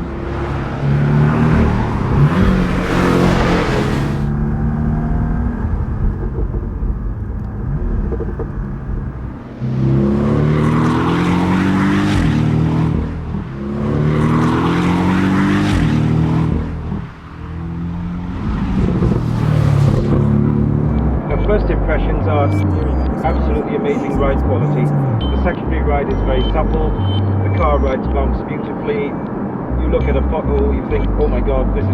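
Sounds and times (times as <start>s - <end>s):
car engine accelerating: 0.0s - 31.9s
gear upshifts: 0.0s - 31.9s.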